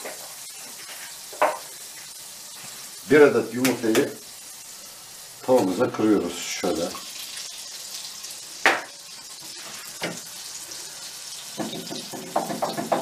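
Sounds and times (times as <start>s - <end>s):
egg sizzling in frying pan: 0.0s - 13.0s.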